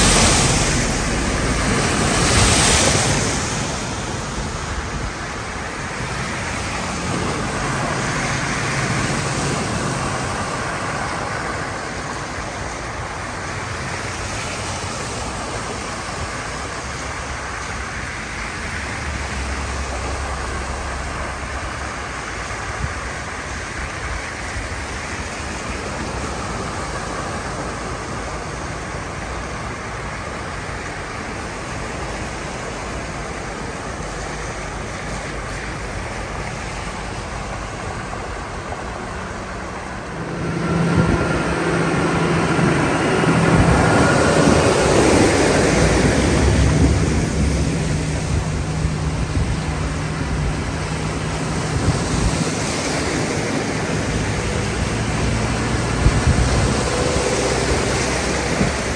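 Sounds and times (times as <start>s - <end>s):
engine hum: 0.0s - 58.9s
heavy water splashing: 0.0s - 58.9s
tyres swishing through water: 0.0s - 58.9s.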